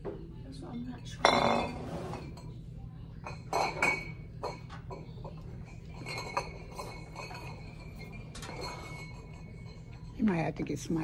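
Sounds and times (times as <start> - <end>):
glass bottles clinking: 0.8 - 2.6, 3.2 - 10.4.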